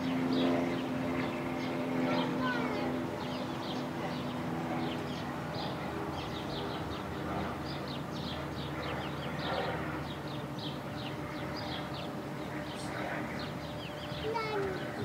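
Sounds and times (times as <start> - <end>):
low mechanical hum: 0.0 - 15.0
songbirds singing: 0.0 - 15.0.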